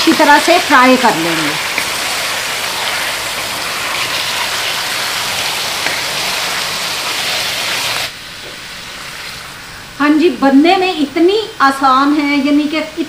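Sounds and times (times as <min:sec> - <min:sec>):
chicken sizzling in ghee: 0:00.0 - 0:13.0.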